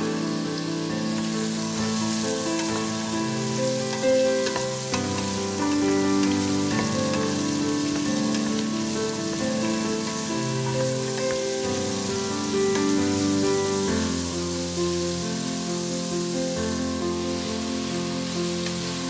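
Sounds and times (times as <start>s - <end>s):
slow instrumental music: 0.0s - 19.0s
vegetables sizzling in oil: 0.0s - 19.0s.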